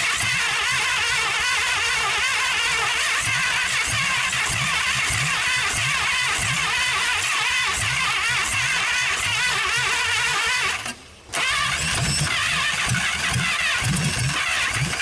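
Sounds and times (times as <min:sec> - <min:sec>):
starter motor cranking engine: 0:00.0 - 0:15.0.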